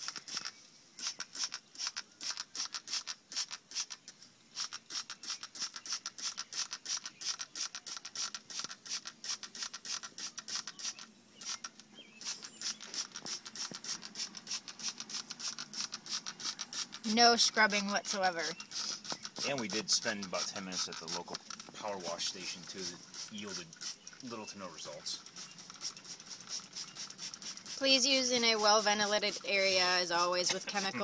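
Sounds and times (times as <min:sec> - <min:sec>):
spray bottle squirting: 0:00.0 - 0:24.4, 0:25.2 - 0:31.0.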